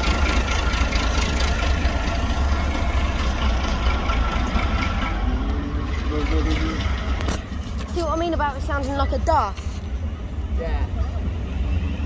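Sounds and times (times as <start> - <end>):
diesel engine idling: 0.0 - 11.6.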